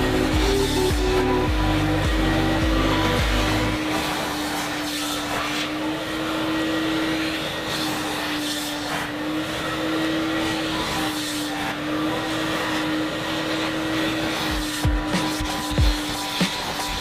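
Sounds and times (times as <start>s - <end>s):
vacuum motor whining: 0.0s - 17.0s.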